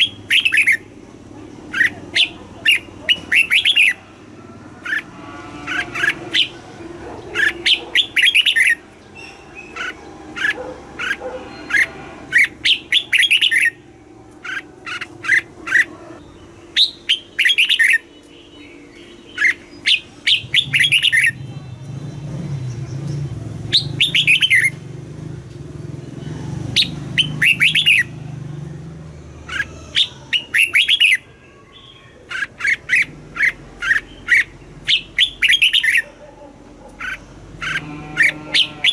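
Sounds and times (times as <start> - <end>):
bulbul singing: 0.0 - 25.0, 25.8 - 38.9.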